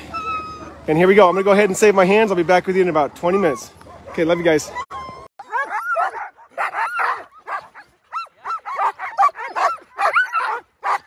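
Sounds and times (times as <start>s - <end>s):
dogs barking and yipping: 0.0s - 1.8s, 3.2s - 11.0s.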